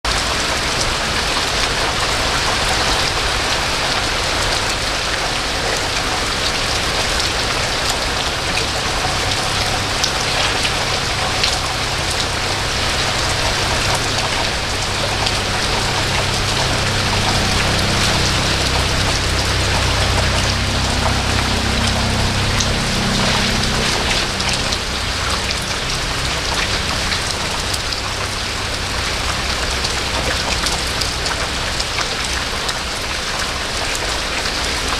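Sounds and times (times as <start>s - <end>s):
steady rain falling: 0.0s - 34.9s
low rumble: 0.3s - 34.9s.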